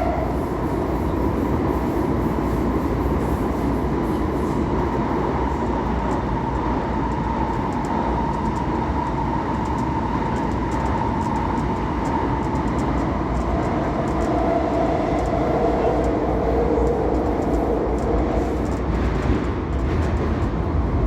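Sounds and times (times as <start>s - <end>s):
train rail rumble: 0.0s - 21.0s.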